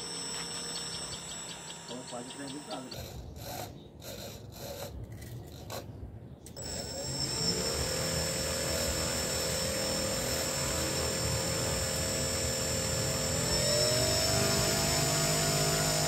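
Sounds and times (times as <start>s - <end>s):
small electric motor whining: 0.0s - 4.9s, 6.6s - 16.0s.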